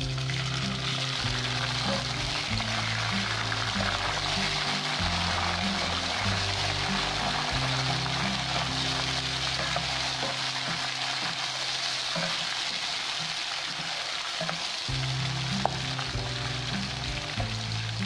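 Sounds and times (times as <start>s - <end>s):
tomatoes and onions sizzling in oil: 0.0s - 18.0s.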